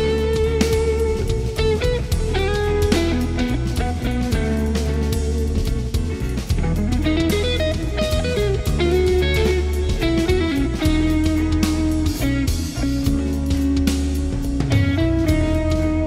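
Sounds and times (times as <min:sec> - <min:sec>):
electric lead guitar bending notes: 0:00.0 - 0:16.0
rock band with drums: 0:00.0 - 0:16.0.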